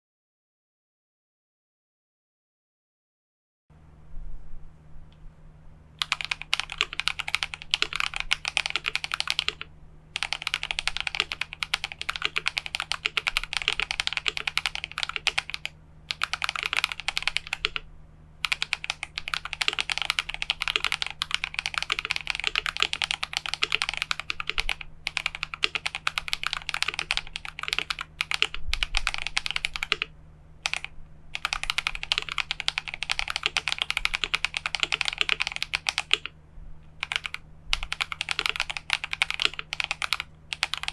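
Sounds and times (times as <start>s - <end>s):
fast typing on mechanical keyboard: 6.0s - 17.8s, 18.4s - 36.4s, 37.0s - 40.9s.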